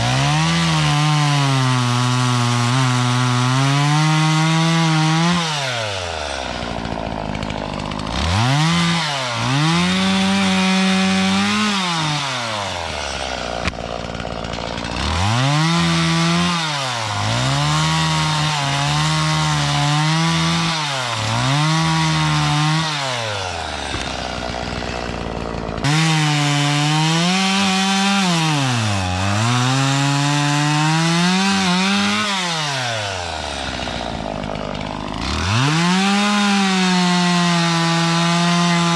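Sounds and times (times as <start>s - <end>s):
chainsaw idling: 0.0s - 38.9s
chainsaw running at full throttle: 0.0s - 38.9s.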